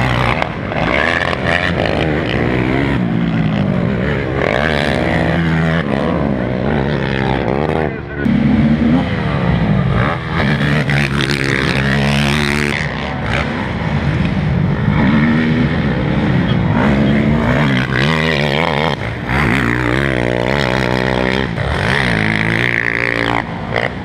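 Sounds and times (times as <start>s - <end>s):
quad engines revving: 0.0s - 24.0s.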